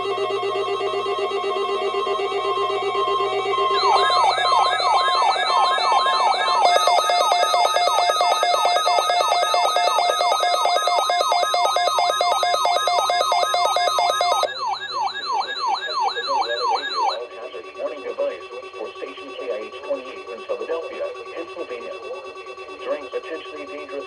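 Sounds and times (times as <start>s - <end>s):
sweeping siren tone: 0.0s - 24.0s
repeating electronic beeps: 3.6s - 24.0s.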